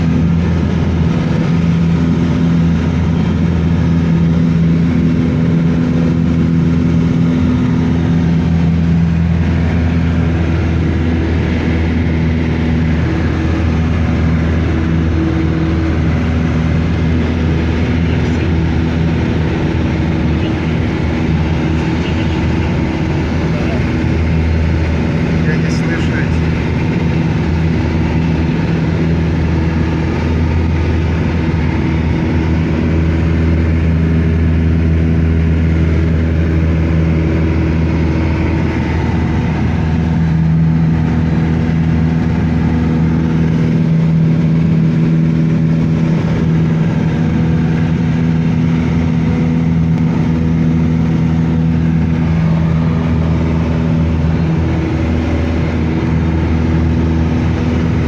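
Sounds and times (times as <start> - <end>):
engine drone: 0.0 - 58.0.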